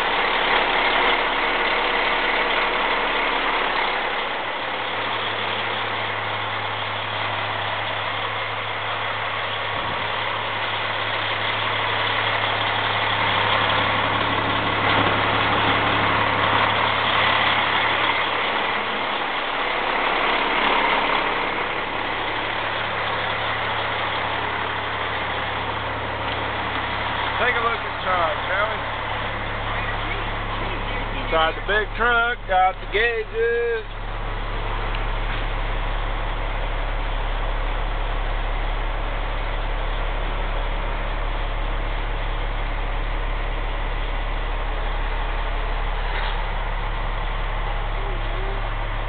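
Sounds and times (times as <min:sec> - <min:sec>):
diesel truck engine idling: 0:00.0 - 0:49.0.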